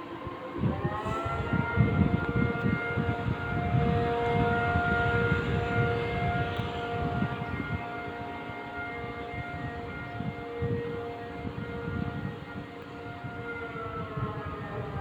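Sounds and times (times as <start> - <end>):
air-raid sirens: 0.0 - 15.0.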